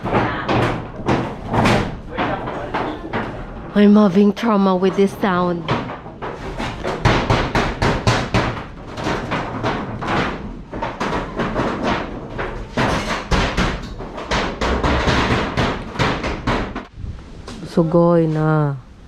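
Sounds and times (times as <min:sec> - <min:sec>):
hammer blows banging: 0:00.0 - 0:16.9.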